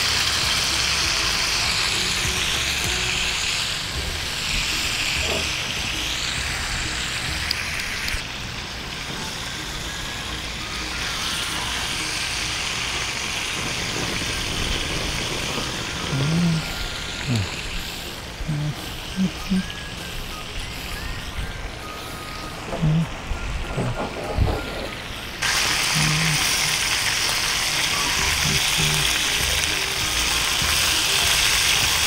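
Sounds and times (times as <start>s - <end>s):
chicken sizzling in hot oil: 0.0s - 22.5s, 24.6s - 32.0s.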